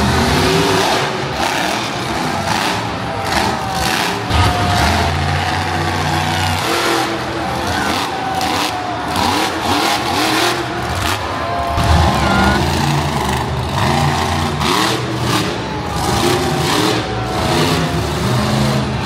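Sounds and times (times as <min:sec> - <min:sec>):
deep steady engine note: 0:00.0 - 0:19.0
monster truck engines revving: 0:00.0 - 0:19.0.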